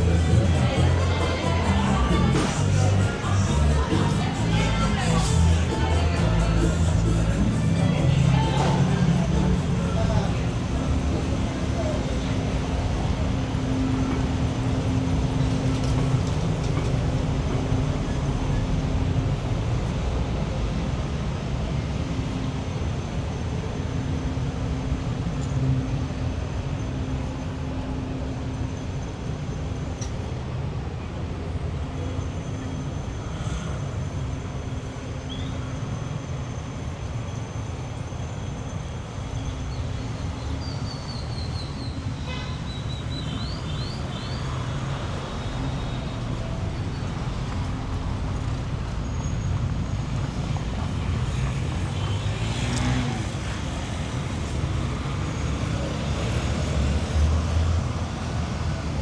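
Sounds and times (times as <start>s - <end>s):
traffic rumble: 0.0s - 59.0s.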